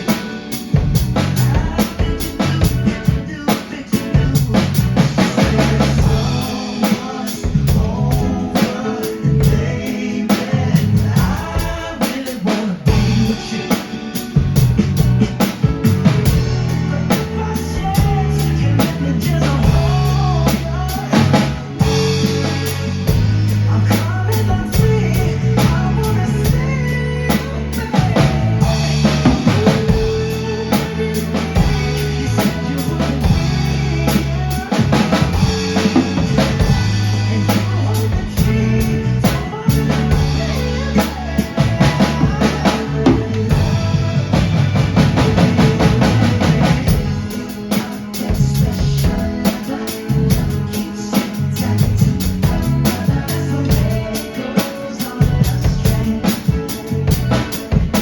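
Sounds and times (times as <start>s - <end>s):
drum kit playing: 0.0s - 58.0s
pop backing track: 0.0s - 58.0s.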